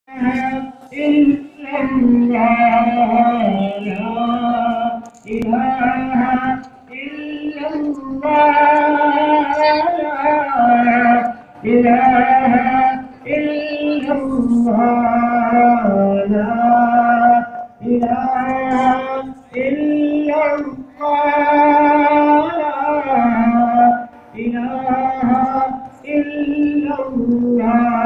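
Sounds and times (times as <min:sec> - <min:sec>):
voices singing long phrases: 0:00.1 - 0:28.0.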